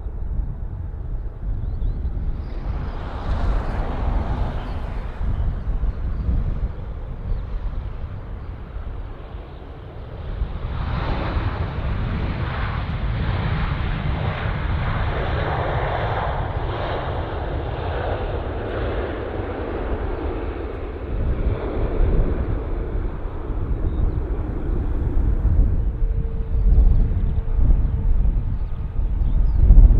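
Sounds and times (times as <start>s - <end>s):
jet engines rushing: 0.0s - 29.9s.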